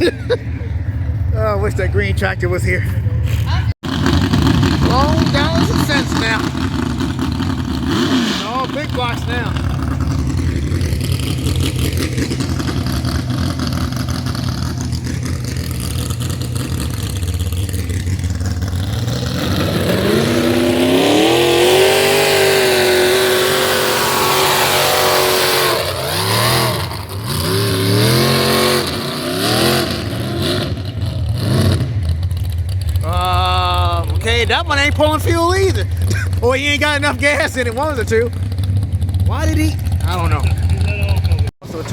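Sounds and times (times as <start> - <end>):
tractor engine idling and revving: 0.0 - 41.9.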